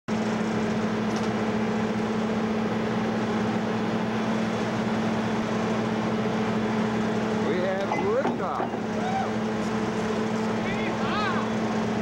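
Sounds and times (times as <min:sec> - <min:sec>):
ship engine hum: 0:00.1 - 0:12.0
wind: 0:00.1 - 0:12.0.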